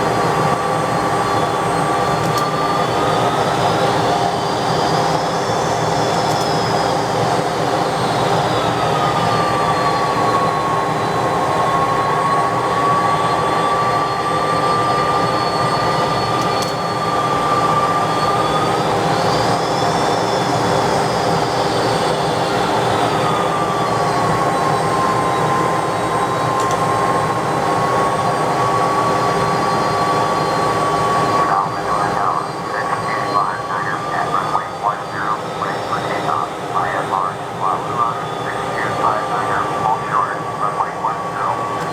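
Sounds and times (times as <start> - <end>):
jet engines rumbling: 0.0 - 41.9.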